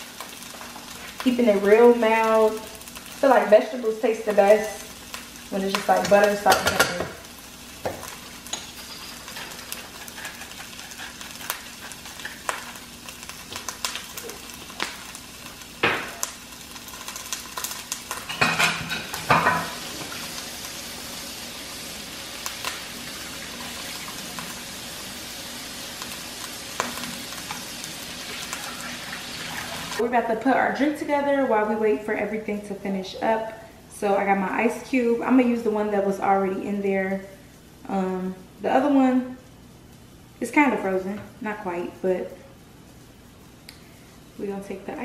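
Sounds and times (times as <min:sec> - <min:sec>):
vegetables sizzling in frying pan: 0:00.0 - 0:45.0.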